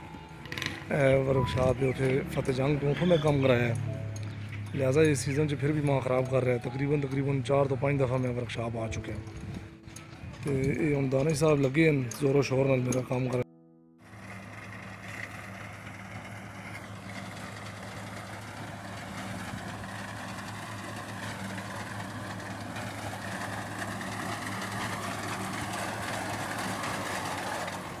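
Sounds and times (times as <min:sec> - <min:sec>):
tractor diesel engine running: 0:00.0 - 0:13.4, 0:14.0 - 0:28.0.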